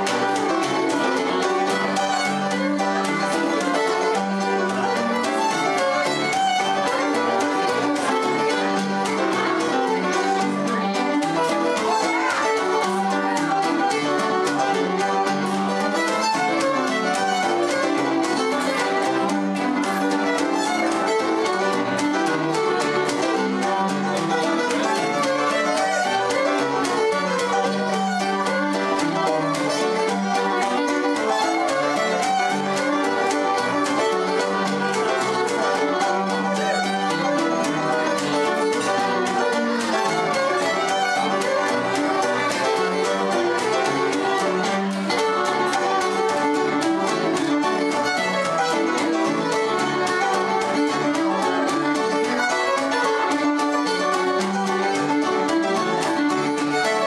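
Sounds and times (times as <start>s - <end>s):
fiddle background music: 0.0s - 57.0s.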